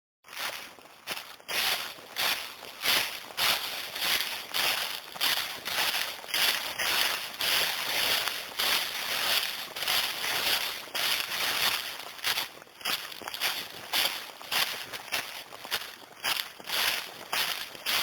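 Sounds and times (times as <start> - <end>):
footsteps crunching dry leaves: 0.3 - 18.0.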